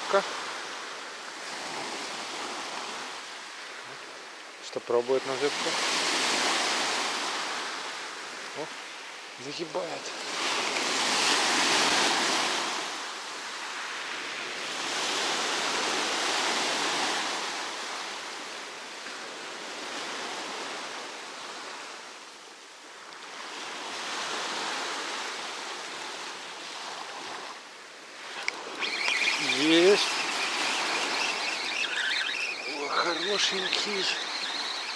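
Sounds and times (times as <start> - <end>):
surf breaking on a beach: 0.0 - 34.9.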